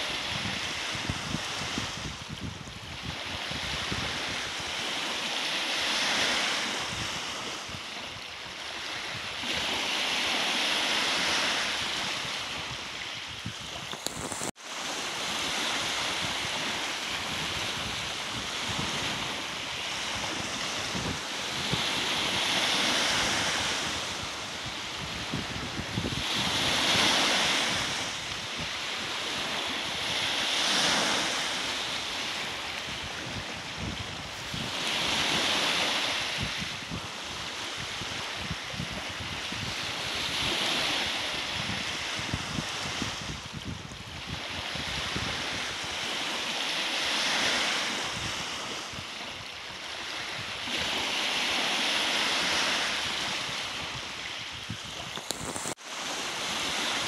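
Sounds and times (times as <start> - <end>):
small waves breaking on shore: 0.0 - 57.0
wind on microphone: 0.0 - 57.0.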